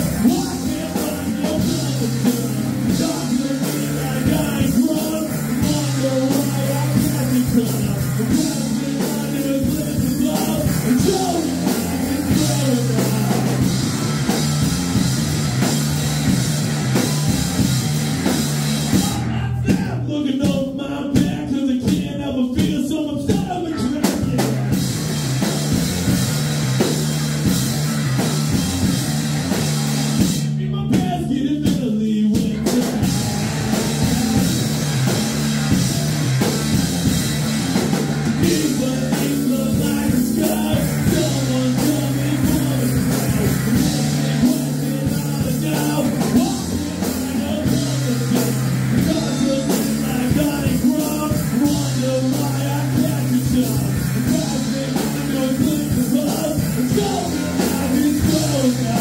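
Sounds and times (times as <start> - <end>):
electric guitar: 0.0 - 20.0, 23.3 - 59.0
drum kit: 0.0 - 59.0
electric bass: 0.0 - 59.0.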